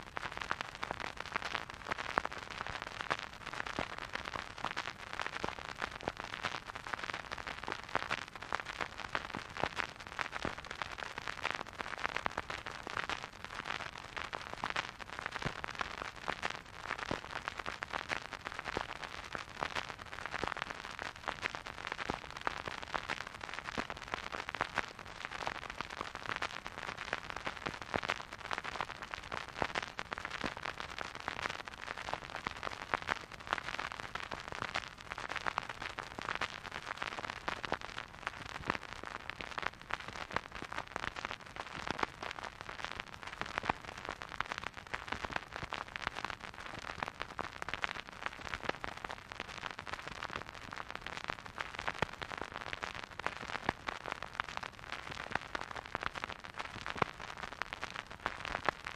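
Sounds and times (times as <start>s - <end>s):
vinyl record crackle and hiss: 0.0s - 58.9s.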